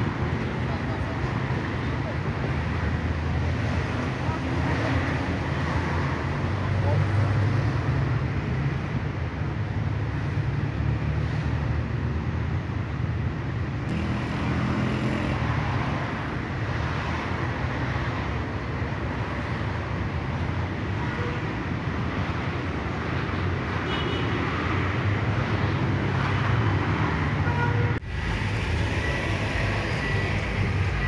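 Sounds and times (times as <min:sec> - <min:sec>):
city road traffic: 0:00.0 - 0:31.0.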